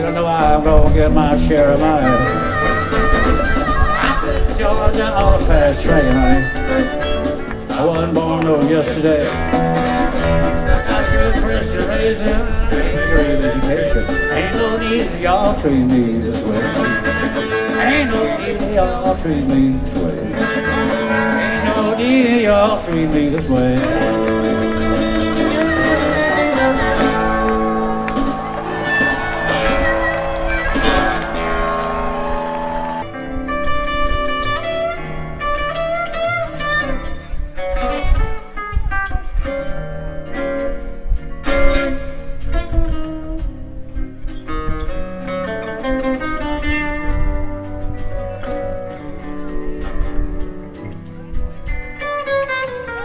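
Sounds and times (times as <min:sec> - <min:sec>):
country band playing: 0:00.0 - 0:39.6, 0:40.2 - 0:53.0
guitar picking single notes: 0:00.0 - 0:53.0.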